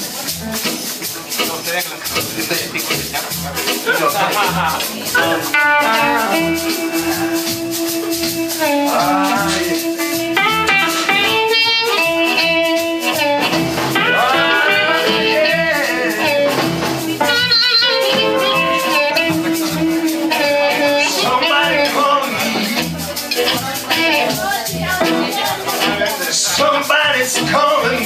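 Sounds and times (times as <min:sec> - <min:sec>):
drum kit: 0:00.0 - 0:28.0
electric bass: 0:00.0 - 0:28.0
electric guitar: 0:00.0 - 0:28.0
harmonica bending notes: 0:04.5 - 0:28.0.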